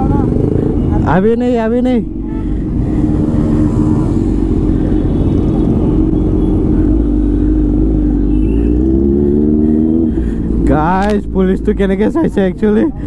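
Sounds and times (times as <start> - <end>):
low road rumble: 0.0 - 13.0.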